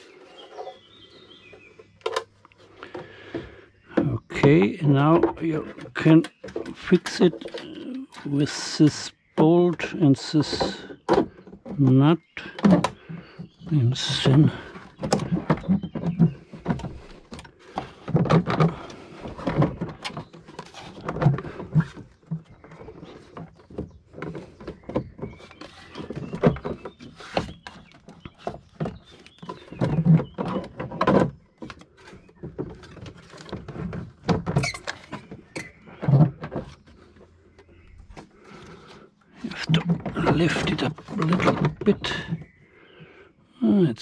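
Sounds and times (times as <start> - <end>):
plastic knocks and clicks: 1.8 - 42.6.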